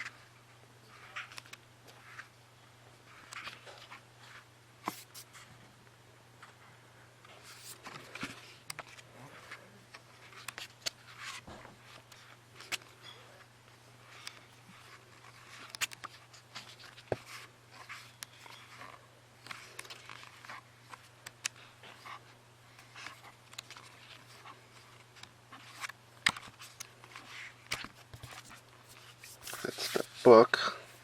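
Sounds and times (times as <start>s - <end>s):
book pages turning: 0.9s - 2.3s, 3.1s - 5.4s, 7.2s - 13.1s, 14.1s - 31.0s.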